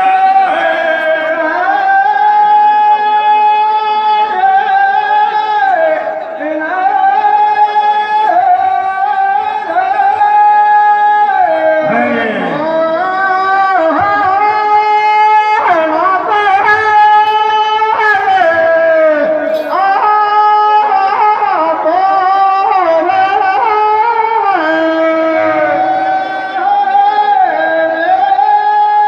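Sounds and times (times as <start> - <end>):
men singing folk devotional song: 0.0 - 29.0.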